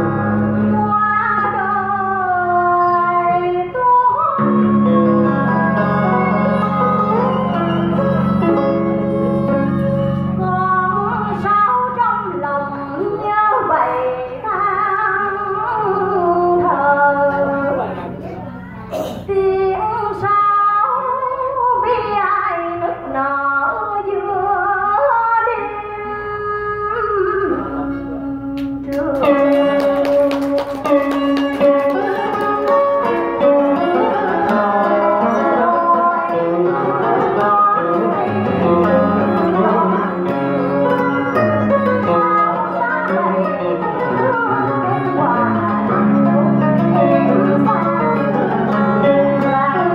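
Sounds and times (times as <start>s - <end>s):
woman singing into microphone: 0.0s - 18.2s, 19.0s - 49.9s
plucked-string accompaniment: 0.0s - 20.2s, 27.8s - 49.9s.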